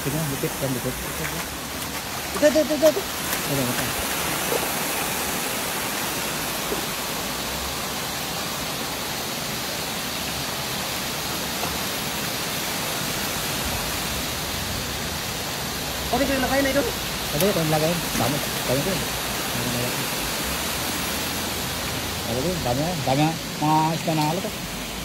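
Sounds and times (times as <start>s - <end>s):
water rushing over a spillway: 0.0s - 25.0s.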